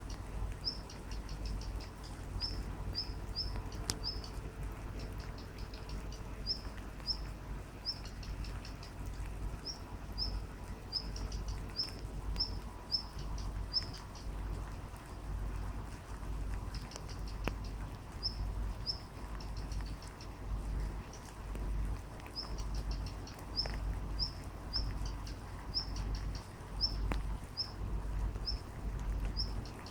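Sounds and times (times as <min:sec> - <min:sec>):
small bird chirping: 0:00.0 - 0:14.4, 0:16.7 - 0:20.4, 0:22.3 - 0:27.8, 0:28.4 - 0:29.9
rain pattering: 0:00.0 - 0:29.9.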